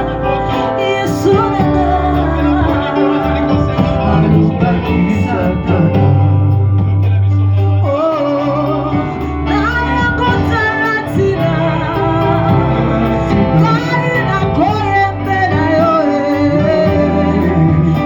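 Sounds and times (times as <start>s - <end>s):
band accompaniment with bass: 0.0s - 18.0s
person singing: 0.0s - 18.0s.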